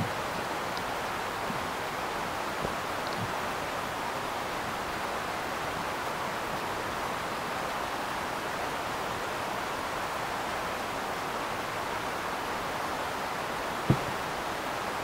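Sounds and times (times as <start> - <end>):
steady microphone hiss: 0.0 - 15.0.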